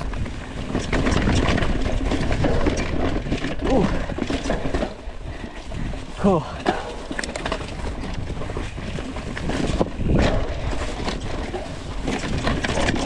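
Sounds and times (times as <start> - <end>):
bike clattering over rocks: 0.0 - 13.0
tyres crunching through leaves: 0.0 - 13.0
wind on microphone: 0.0 - 13.0.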